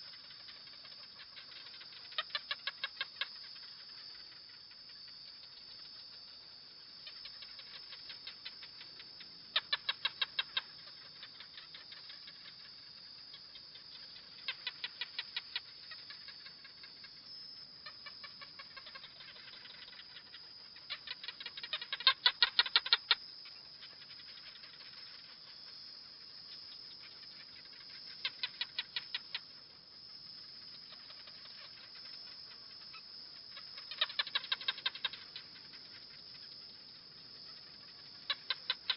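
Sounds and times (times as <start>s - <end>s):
steady high hiss: 0.0s - 38.9s.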